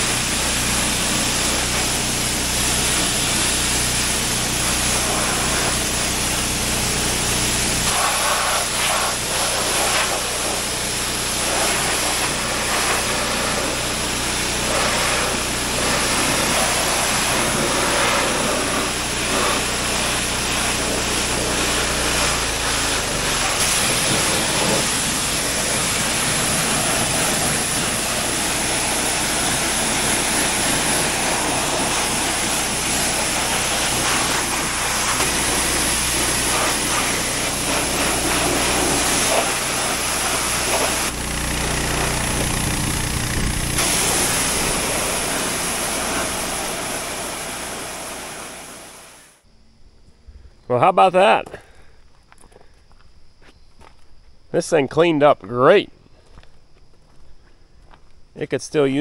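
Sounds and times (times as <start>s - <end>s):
pressure washer engine running: 0.0s - 49.4s
water spray hissing and spattering: 0.0s - 49.4s.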